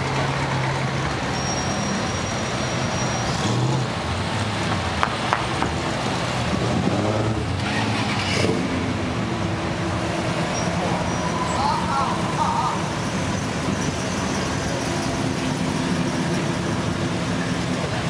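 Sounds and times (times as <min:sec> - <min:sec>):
car engines passing slowly: 0:00.0 - 0:18.0.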